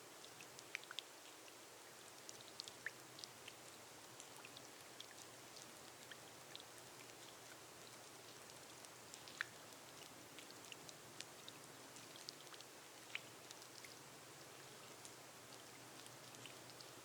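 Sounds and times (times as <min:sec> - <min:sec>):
rain on glass roof: 0:00.0 - 0:17.0.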